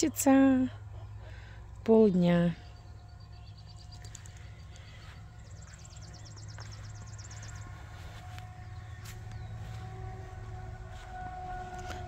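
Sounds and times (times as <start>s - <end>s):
songbird singing: 0.0s - 12.0s
steady low hum: 0.0s - 12.0s.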